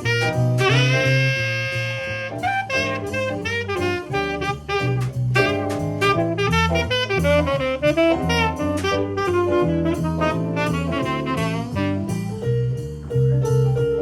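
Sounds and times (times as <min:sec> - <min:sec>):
tenor saxophone solo: 0:00.0 - 0:12.4
drums: 0:00.0 - 0:14.0
jazz piano: 0:00.0 - 0:14.0
walking upright bass: 0:00.0 - 0:14.0.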